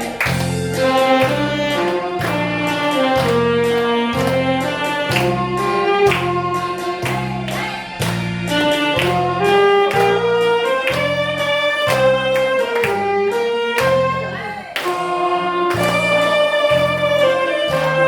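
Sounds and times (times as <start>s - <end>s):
pulsing bass accompaniment: 0.0s - 18.0s
saxophone playing slow melody: 0.2s - 18.0s.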